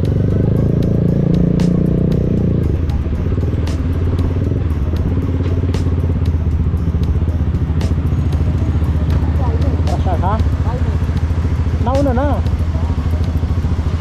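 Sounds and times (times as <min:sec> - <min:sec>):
motorcycle engine slowing: 0:00.0 - 0:14.0.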